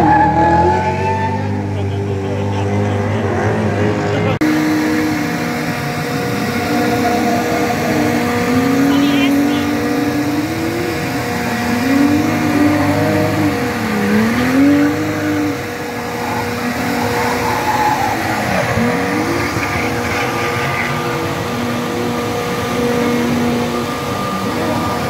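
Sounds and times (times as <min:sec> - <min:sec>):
car engine revving hard: 0:00.0 - 0:25.0.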